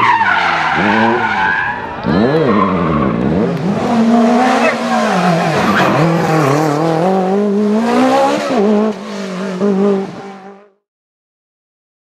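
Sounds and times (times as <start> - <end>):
race car engine accelerating: 0.7 - 10.8.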